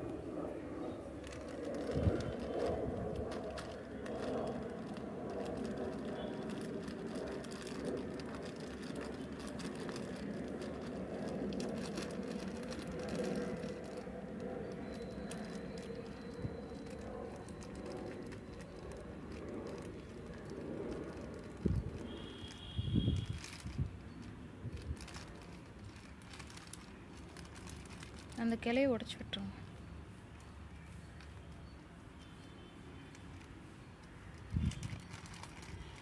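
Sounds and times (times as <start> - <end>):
plastic bag crinkling: 1.0 - 29.2, 32.9 - 36.0.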